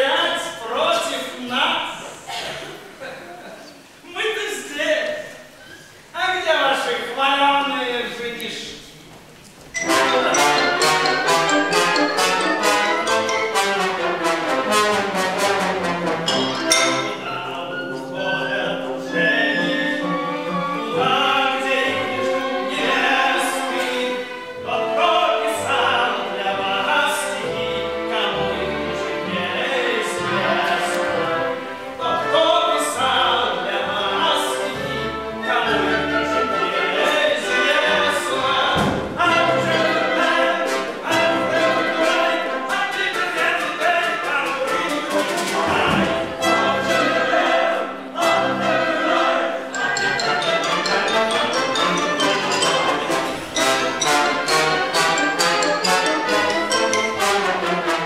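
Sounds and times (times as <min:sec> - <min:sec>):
orchestra playing: 0:09.7 - 0:58.0
operatic singing: 0:09.8 - 0:58.0.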